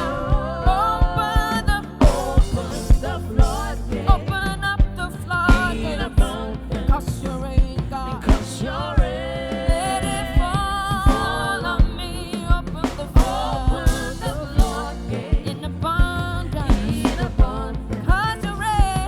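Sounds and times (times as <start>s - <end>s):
bass line: 0.0s - 19.0s
drum kit: 0.0s - 19.0s.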